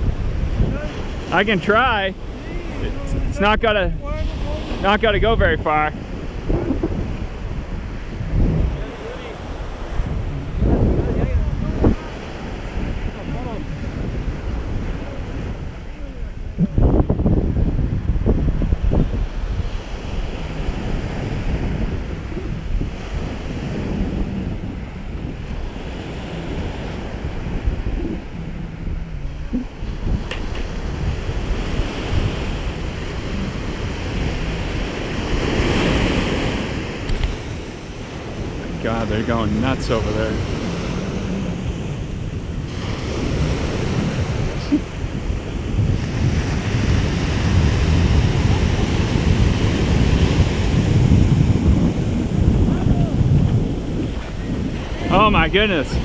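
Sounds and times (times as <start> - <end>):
waves breaking on sandy beach: 0.0 - 56.0
wind buffeting microphone: 0.0 - 56.0.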